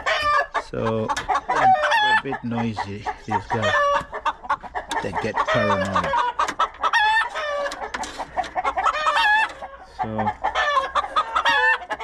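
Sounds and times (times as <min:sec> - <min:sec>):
chickens squawking: 0:00.0 - 0:12.0.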